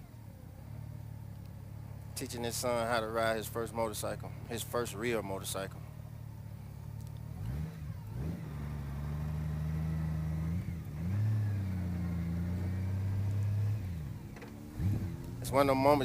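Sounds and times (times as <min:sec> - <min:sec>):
motorcycle engine revving: 0:02.2 - 0:16.0.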